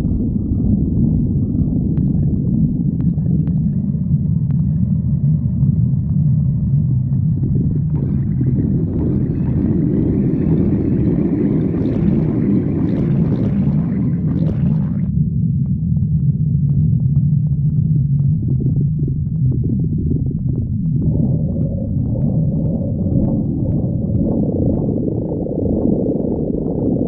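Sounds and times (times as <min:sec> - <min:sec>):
stomach growling and gurgling: 0:00.0 - 0:27.0.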